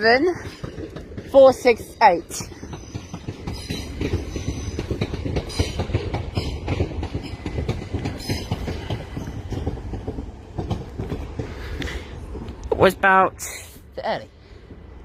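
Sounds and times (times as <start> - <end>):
train low rumble: 0.0 - 15.0
train wheels clicking over rail joints: 0.0 - 15.0.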